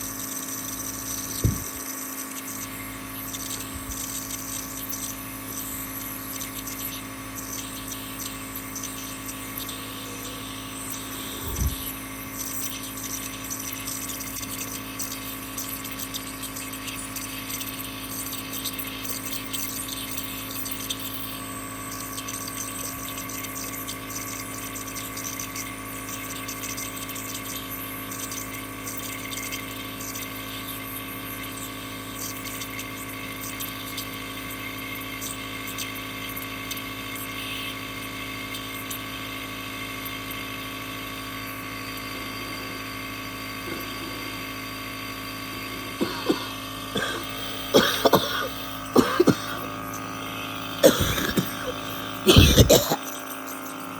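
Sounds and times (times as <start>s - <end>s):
machine hum with hiss: 0.0s - 53.9s.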